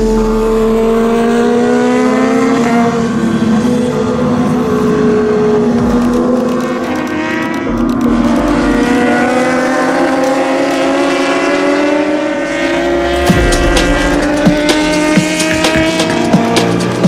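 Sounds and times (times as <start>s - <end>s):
racing motorcycle engines revving: 0.0s - 17.0s.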